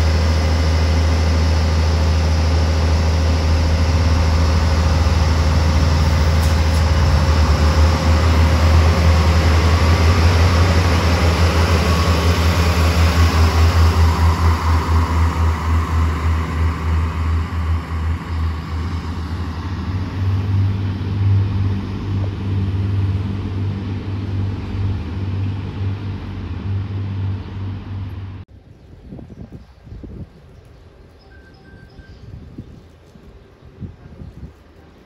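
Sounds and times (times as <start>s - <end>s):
diesel train engine drone: 0.0s - 29.0s
rail noise: 0.0s - 35.0s.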